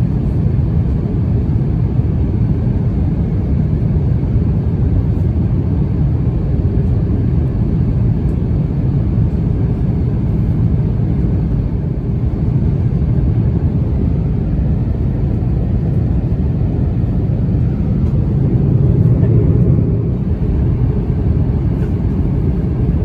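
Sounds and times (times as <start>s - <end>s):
airplane cabin engine rush: 0.0s - 23.0s.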